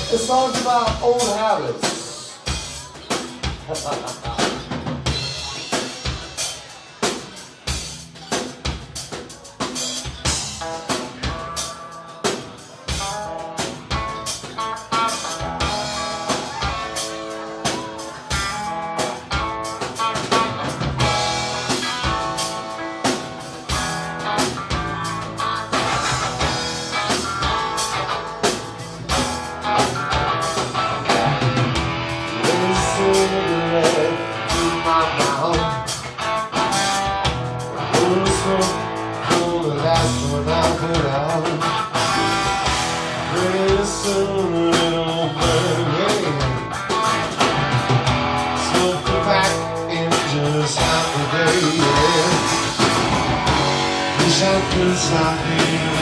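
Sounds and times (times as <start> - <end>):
bass guitar: 0.0 - 56.0
drum kit beat: 0.0 - 56.0
electric guitars: 0.0 - 56.0.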